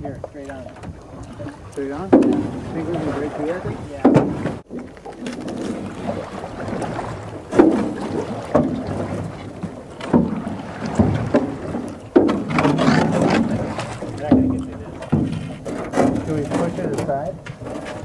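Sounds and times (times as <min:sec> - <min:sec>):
paddle knocking and splashing: 0:00.0 - 0:18.0.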